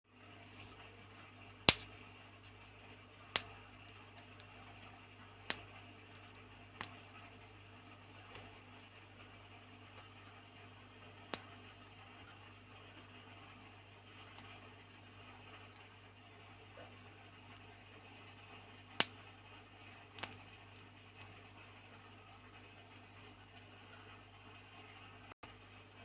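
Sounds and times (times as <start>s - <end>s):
steady low hum: 0.1s - 26.0s
modeling clay clicks and crackles: 1.7s - 25.4s.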